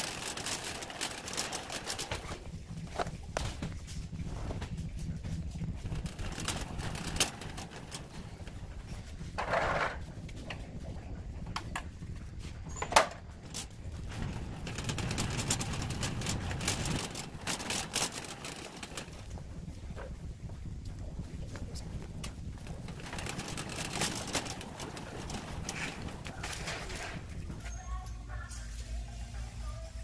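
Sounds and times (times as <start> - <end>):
cart basket rattling: 0.0 - 29.1
shopping cart wheels rumbling: 0.0 - 30.0.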